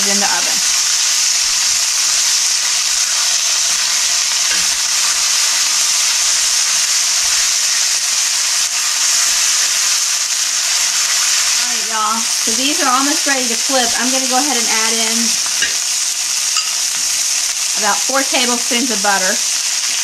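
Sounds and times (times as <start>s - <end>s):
steaks sizzling in skillet: 0.0s - 20.0s.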